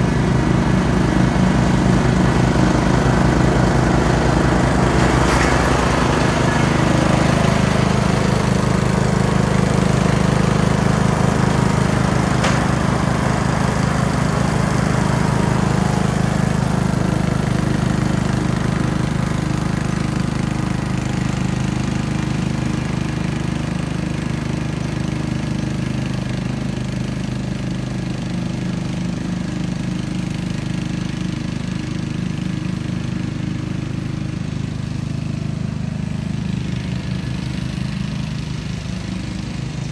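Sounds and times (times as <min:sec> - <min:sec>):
riding mower engine: 0:00.0 - 0:39.9.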